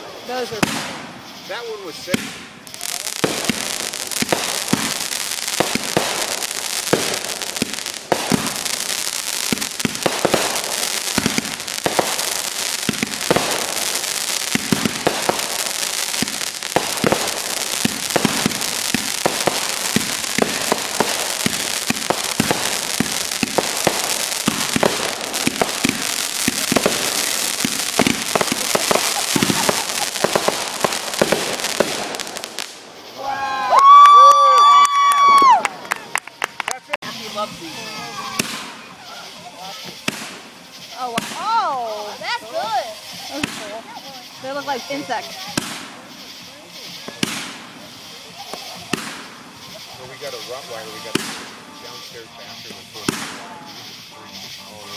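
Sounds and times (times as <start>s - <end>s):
fireworks crackling and popping: 0.0s - 54.9s.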